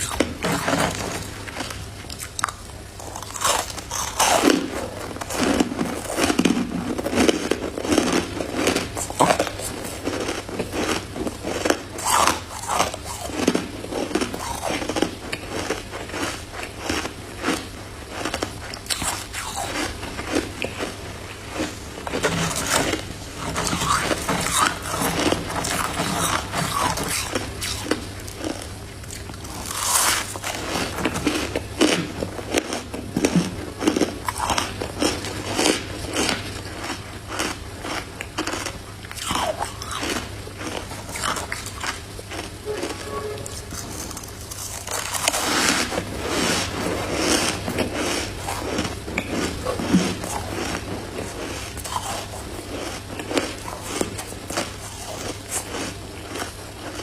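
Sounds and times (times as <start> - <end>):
biting and chewing crunchy frost: 0.0 - 57.0.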